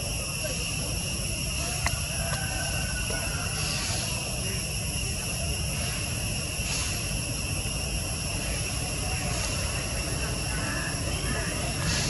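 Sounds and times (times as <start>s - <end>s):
diesel locomotive engine rumbling: 0.0s - 12.0s
insects buzzing: 0.0s - 12.0s.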